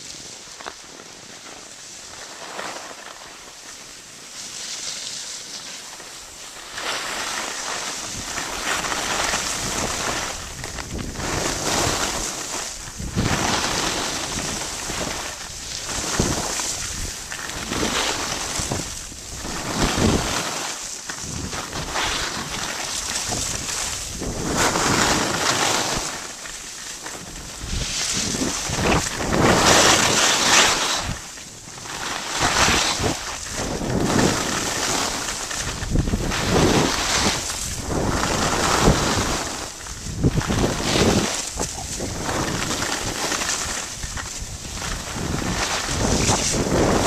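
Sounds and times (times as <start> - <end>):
skis scraping over snow: 0.0 - 47.0
wind noise on microphone: 6.6 - 47.0.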